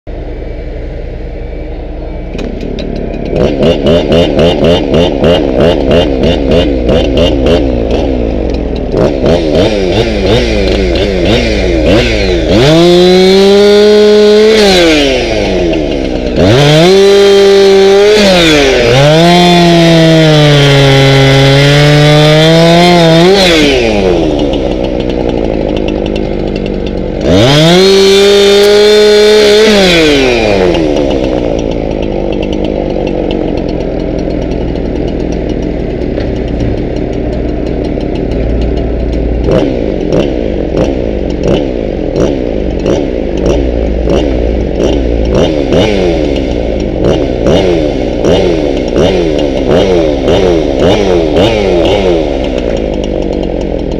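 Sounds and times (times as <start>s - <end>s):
chainsaw revving and cutting wood: 2.1s - 53.9s.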